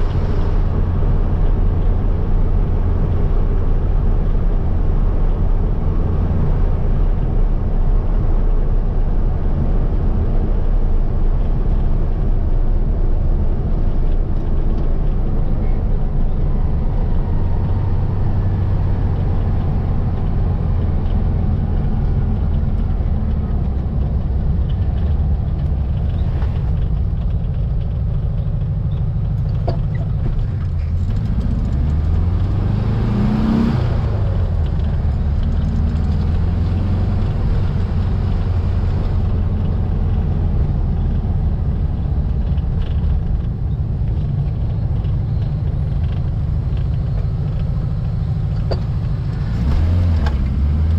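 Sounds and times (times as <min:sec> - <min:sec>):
car engine droning while driving: 0:00.0 - 0:50.9.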